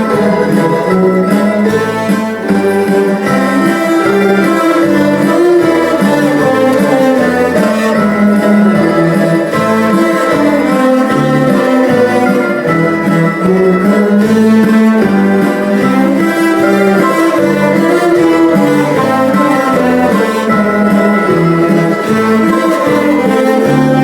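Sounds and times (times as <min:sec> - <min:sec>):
cello ensemble playing: 0:00.0 - 0:24.0.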